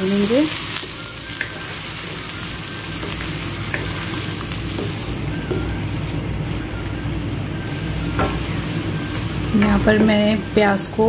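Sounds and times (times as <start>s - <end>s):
onion paste sizzling in wok: 0.0s - 6.8s, 7.7s - 11.0s.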